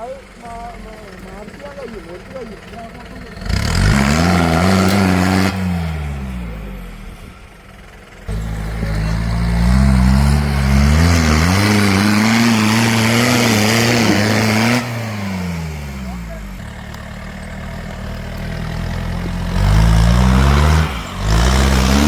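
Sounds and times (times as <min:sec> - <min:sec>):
vehicle engine revving hard: 0:03.2 - 0:07.4, 0:08.3 - 0:22.0.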